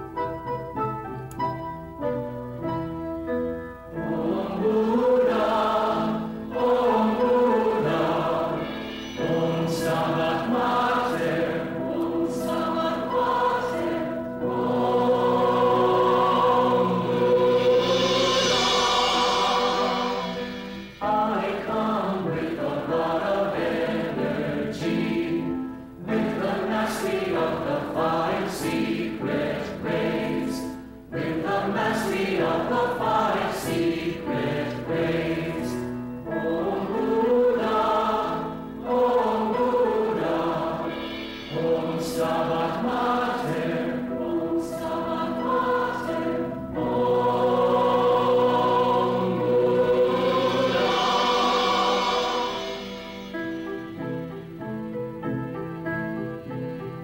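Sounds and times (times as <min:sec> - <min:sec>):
choir singing: 0:03.9 - 0:54.1.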